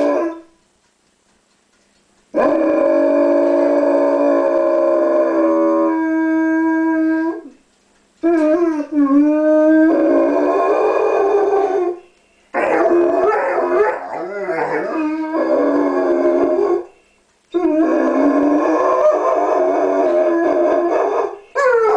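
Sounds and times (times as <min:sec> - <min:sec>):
dog howling: 0:02.4 - 0:07.6, 0:08.2 - 0:12.0, 0:12.6 - 0:16.9, 0:17.5 - 0:21.9.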